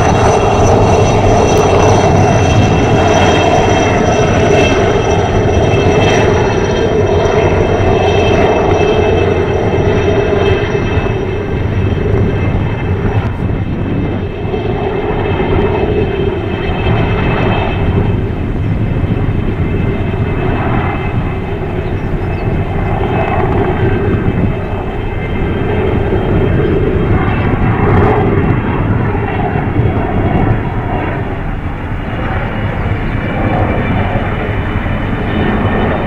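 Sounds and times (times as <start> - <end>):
helicopter rotor chop: 0.0 - 36.0
helicopter turbine whine: 0.0 - 36.0.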